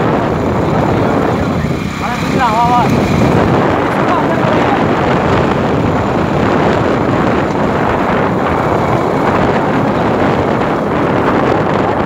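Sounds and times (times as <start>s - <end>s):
moving vehicle running: 0.0s - 12.0s
wind buffeting microphone: 0.0s - 12.0s.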